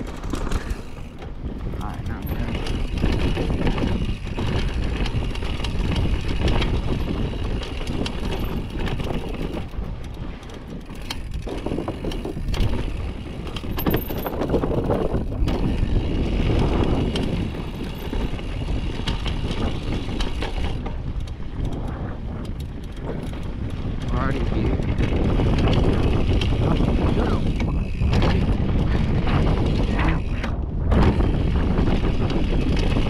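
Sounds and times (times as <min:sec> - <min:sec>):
bike rattling over bumps: 0:00.0 - 0:33.0
bike tyres crunching on dirt: 0:00.0 - 0:33.0.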